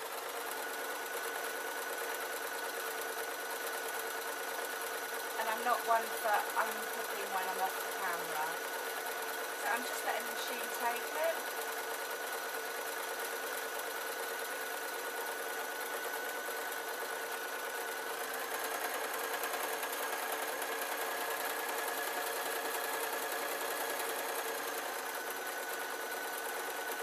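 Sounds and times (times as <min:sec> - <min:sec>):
sewing machine whirring: 0:00.0 - 0:27.0.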